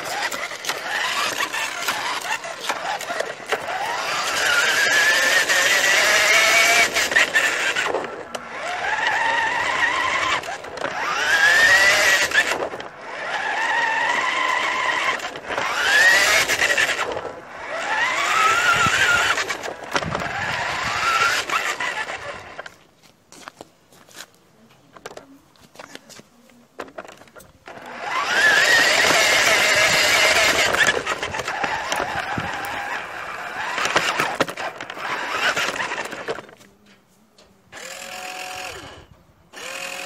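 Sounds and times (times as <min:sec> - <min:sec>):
toy truck motor whining: 0:00.0 - 0:22.8, 0:26.8 - 0:37.0, 0:37.7 - 0:40.0.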